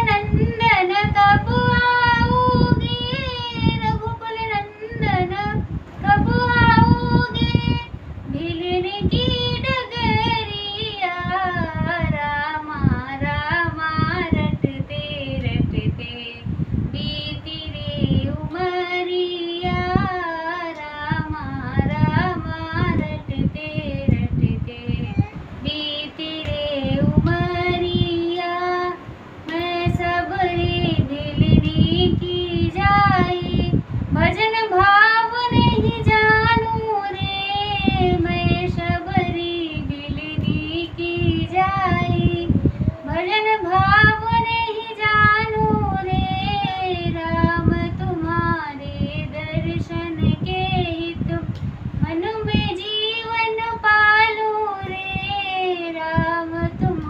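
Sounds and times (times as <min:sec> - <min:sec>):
woman singing devotional song: 0:00.0 - 0:57.0.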